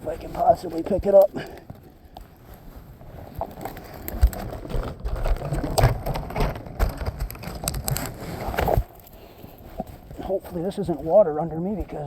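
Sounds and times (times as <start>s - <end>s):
footsteps crunching through snow: 0.0s - 5.7s, 6.6s - 12.0s.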